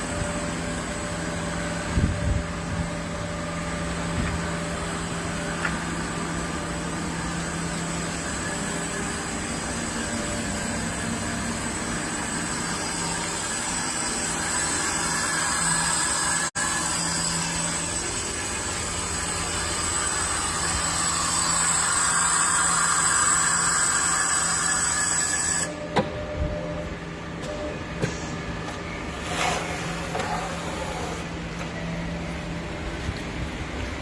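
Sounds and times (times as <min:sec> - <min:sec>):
milling machine hum and whine: 0:00.0 - 0:34.0.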